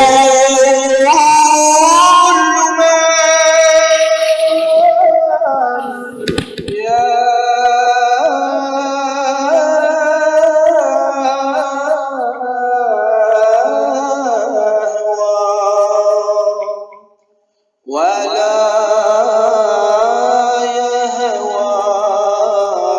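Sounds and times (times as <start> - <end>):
person chanting devotional song: 0.0 - 17.0, 17.9 - 22.9.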